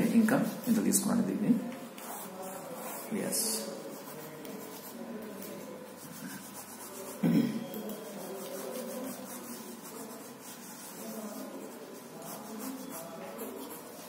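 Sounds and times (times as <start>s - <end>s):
pencil scratching on paper: 2.0s - 7.3s, 7.9s - 14.0s.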